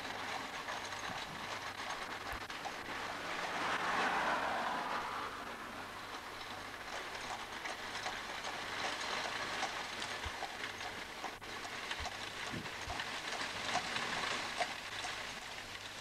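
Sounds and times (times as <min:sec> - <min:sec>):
horse hooves clip-clopping on asphalt: 0:00.0 - 0:04.9, 0:05.6 - 0:16.0
carriage wheels rolling: 0:00.0 - 0:16.0.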